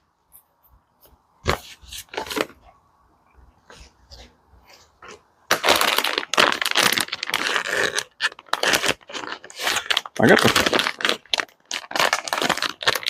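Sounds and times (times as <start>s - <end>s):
packaging crinkling and rustling: 1.4s - 2.7s, 3.7s - 13.0s.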